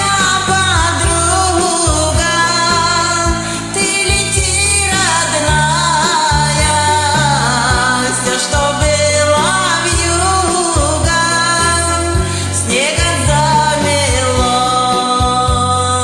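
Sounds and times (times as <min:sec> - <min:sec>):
karaoke backing track: 0:00.0 - 0:16.0
woman singing with vibrato: 0:00.0 - 0:16.0.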